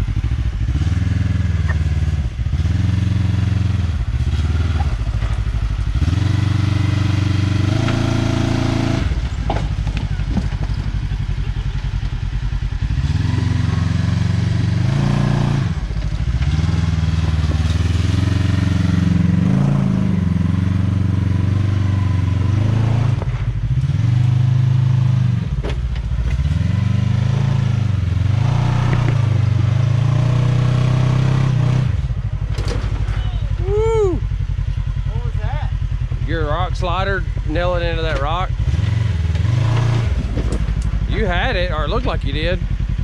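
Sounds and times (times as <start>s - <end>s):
utv engine idling and revving: 0.0s - 43.0s.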